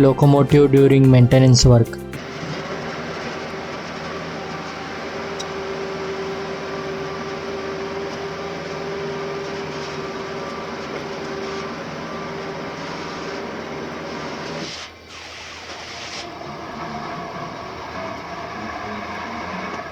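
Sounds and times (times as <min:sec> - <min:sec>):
crane mechanical hum and rumble: 0:02.2 - 0:19.9
crane whine: 0:02.2 - 0:19.9.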